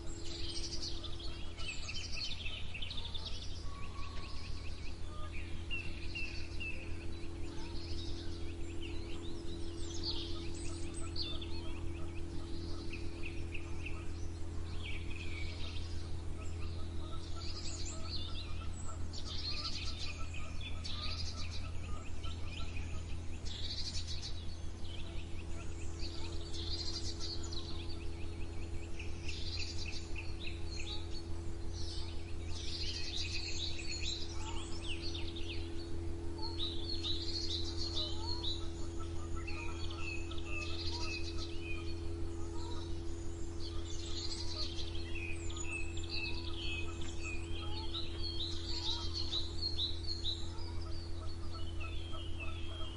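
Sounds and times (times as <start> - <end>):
low hum: 0.0 - 52.9
songbirds singing: 0.0 - 52.9.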